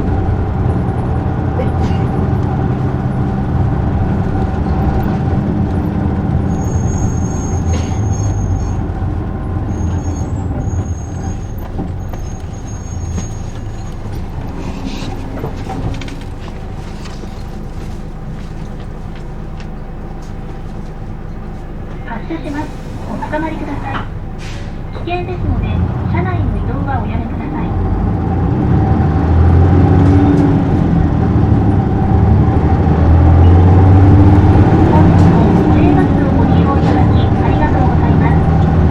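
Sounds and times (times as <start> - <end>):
brakes squealing: 0.0 - 38.9
bus engine and road noise: 0.0 - 38.9.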